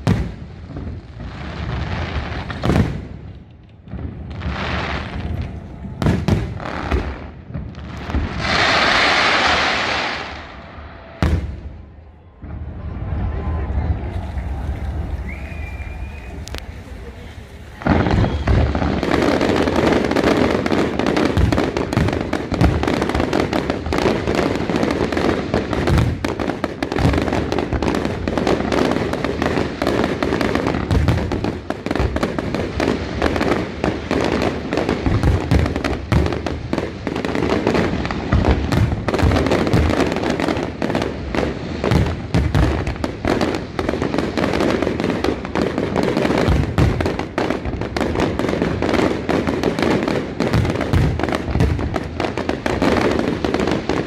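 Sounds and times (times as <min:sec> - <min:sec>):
booming fireworks reports: 0:00.0 - 0:54.0
fireworks bursts and crackling: 0:00.0 - 0:54.0.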